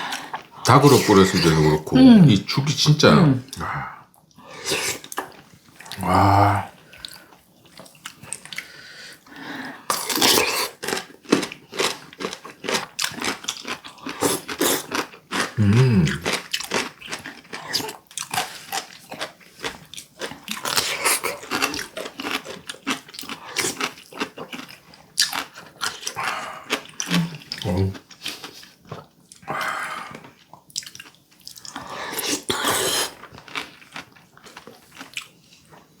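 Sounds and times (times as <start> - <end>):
chewing and slurping mouth noises: 3.5 - 36.0.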